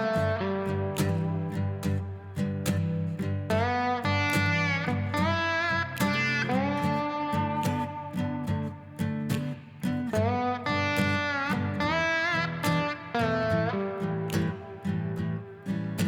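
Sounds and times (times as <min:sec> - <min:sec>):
slide guitar bending notes: 0:00.0 - 0:16.0.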